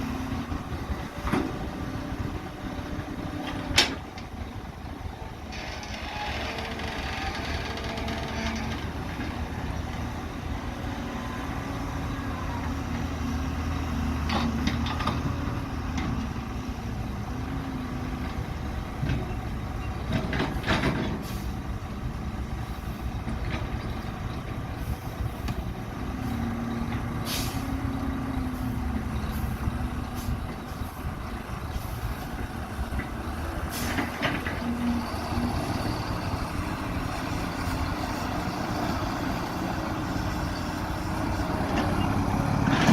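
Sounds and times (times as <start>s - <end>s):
diesel engines running: 0.0s - 42.9s.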